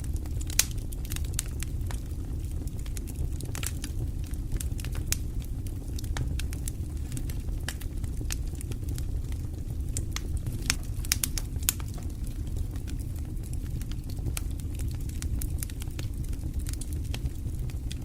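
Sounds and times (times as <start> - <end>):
fire crackling in fireplace: 0.0 - 18.0.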